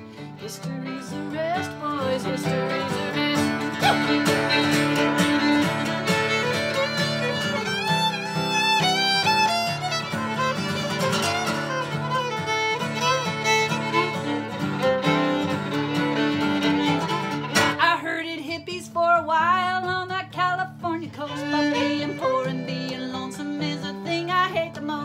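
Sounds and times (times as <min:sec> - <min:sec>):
fiddle playing lead: 0:00.0 - 0:17.8, 0:21.2 - 0:24.6
strummed acoustic guitar: 0:00.0 - 0:25.0.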